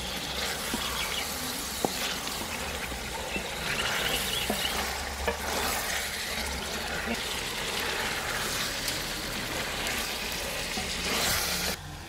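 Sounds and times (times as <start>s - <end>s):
vegetables sizzling in a pot: 0.0s - 11.8s.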